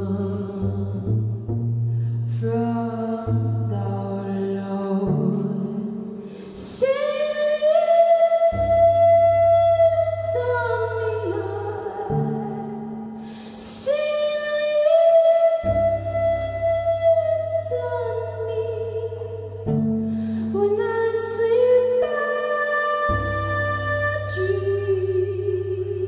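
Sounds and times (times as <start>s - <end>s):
low sustained cello notes: 0.0s - 26.0s.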